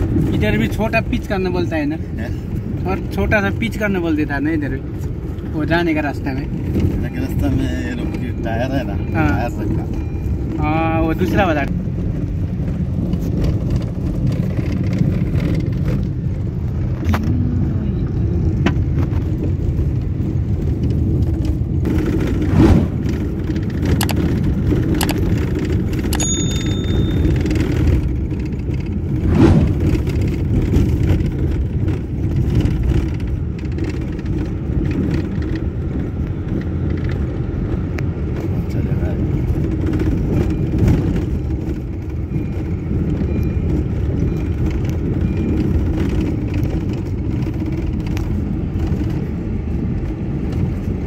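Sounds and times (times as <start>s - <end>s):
car rumbling on gravel: 0.0s - 51.0s.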